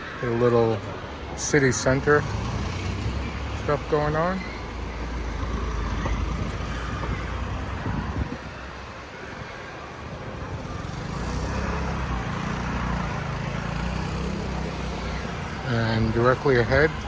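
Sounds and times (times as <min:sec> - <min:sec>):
road vehicles passing: 0:00.0 - 0:17.0.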